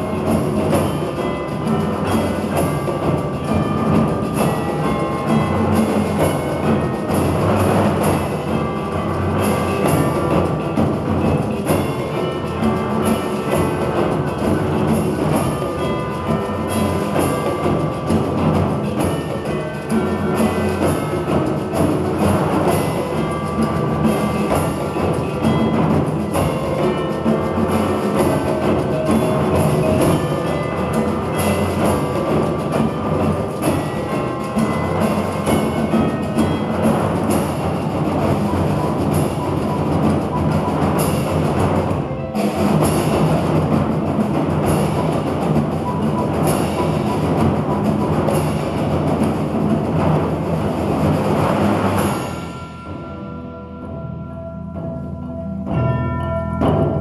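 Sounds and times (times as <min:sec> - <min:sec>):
timpani and drums: 0:00.0 - 0:57.0.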